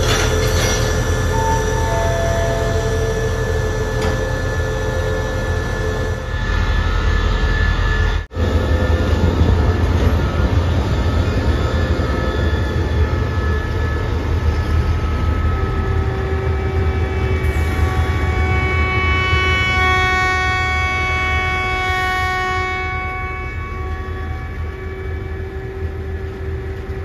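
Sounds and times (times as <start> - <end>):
diesel train engine rumble: 0.0 - 27.0.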